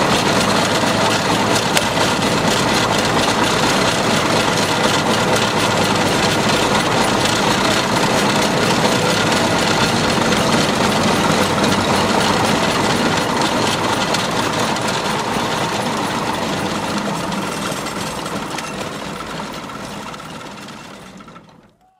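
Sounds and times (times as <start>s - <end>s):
steam engine working under load: 0.0s - 21.8s.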